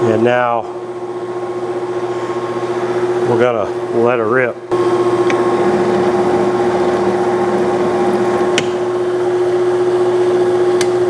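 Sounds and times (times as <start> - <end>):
gearhead hum: 0.0 - 11.0
lathe cutting thread: 1.0 - 11.0.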